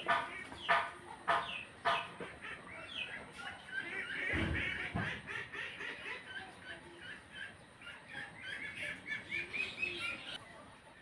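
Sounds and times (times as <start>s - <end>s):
birds clucking and chirping: 0.0s - 11.0s.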